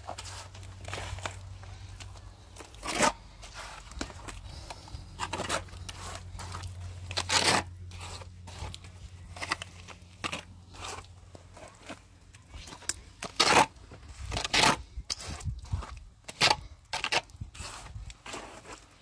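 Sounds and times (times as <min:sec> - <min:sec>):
low steady hum: 0:00.0 - 0:19.0
trowel scraping wet plaster: 0:02.6 - 0:19.0.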